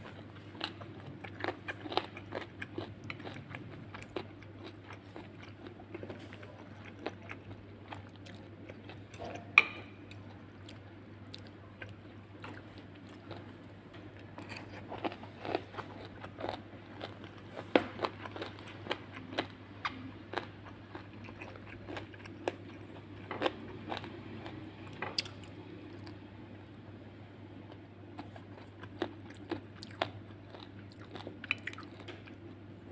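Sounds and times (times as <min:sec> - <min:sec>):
crunchy food chewing: 0:00.0 - 0:26.2, 0:27.7 - 0:32.6.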